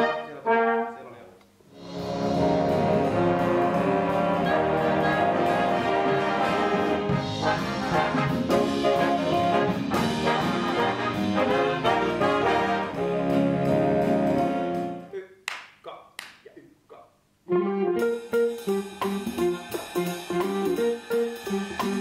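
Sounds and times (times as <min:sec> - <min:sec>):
big band playing: 0:00.0 - 0:01.1, 0:01.7 - 0:15.2, 0:17.5 - 0:22.0.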